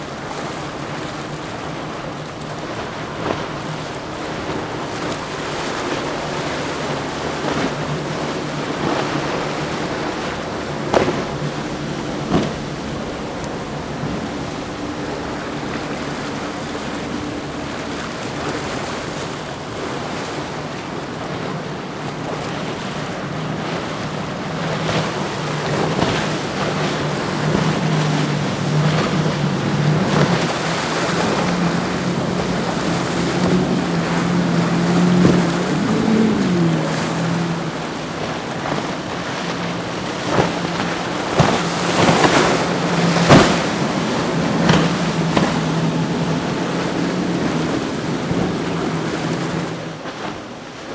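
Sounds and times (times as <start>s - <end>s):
sharp water splashes: 0.0s - 50.8s
hull spray and waves: 0.0s - 50.9s
powerboat engine drone: 0.0s - 50.9s
wind on microphone: 0.0s - 50.9s.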